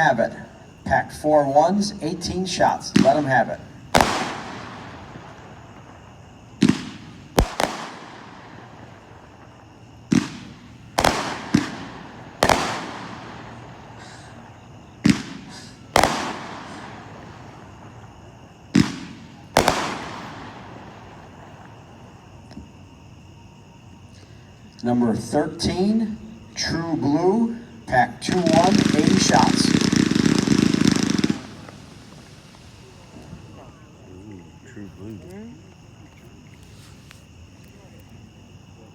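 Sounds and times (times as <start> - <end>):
firework bangs: 0.0 - 23.0, 25.6 - 33.8.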